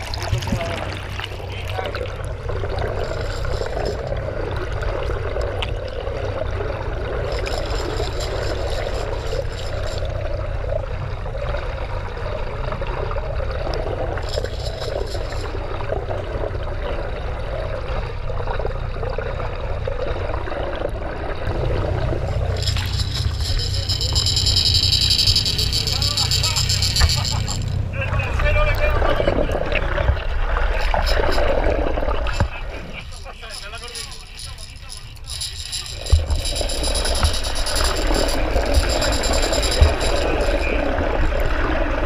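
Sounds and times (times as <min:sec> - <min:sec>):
muffled underwater bubbling: 0:00.0 - 0:42.0
steady low rumble: 0:00.0 - 0:42.0.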